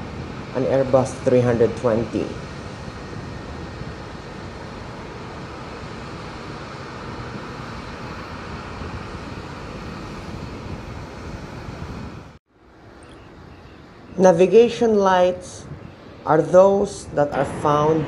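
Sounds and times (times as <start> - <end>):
jet airliners humming: 0.0 - 18.0.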